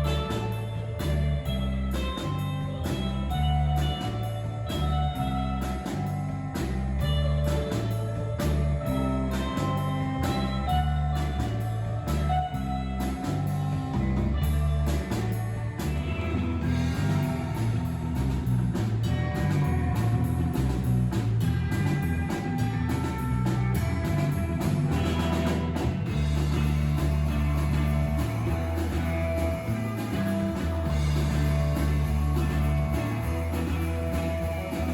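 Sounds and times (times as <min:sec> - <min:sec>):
bass line: 0:00.0 - 0:34.9
driving drum beat: 0:00.0 - 0:34.9
electric guitar: 0:00.0 - 0:34.9.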